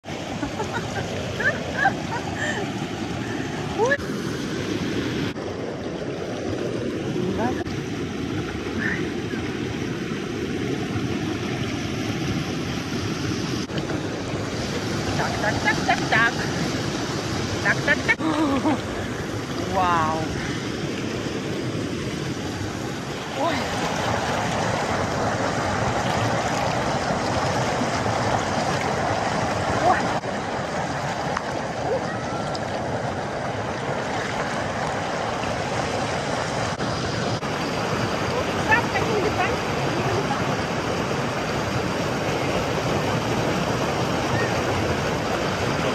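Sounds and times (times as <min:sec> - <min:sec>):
creek water rushing over rocks: 0:00.0 - 0:45.9.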